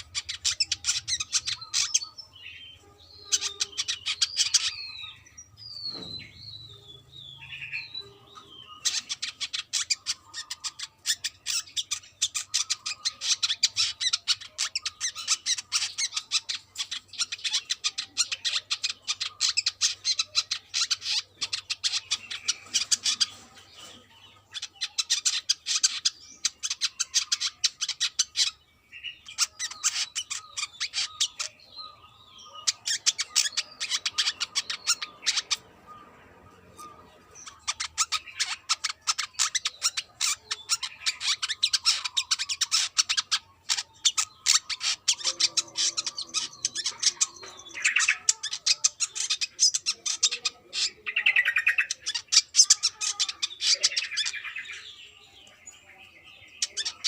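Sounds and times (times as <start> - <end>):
bird whistling and twittering: 0.0 - 57.0.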